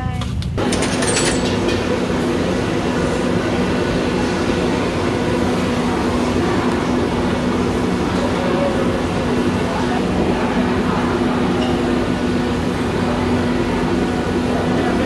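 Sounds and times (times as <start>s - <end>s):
faint constant hum: 0.0s - 15.0s
low mechanical rumble: 0.0s - 15.0s.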